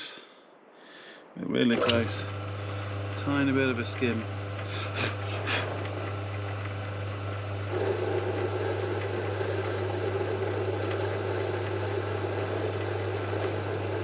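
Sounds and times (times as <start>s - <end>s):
lathe motor hum: 1.7s - 14.0s
lathe tool grinding while cutting: 1.7s - 14.0s.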